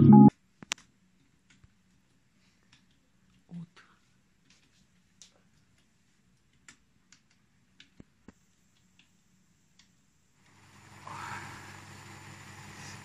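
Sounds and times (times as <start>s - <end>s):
steady hiss and low hum: 0.4s - 13.0s.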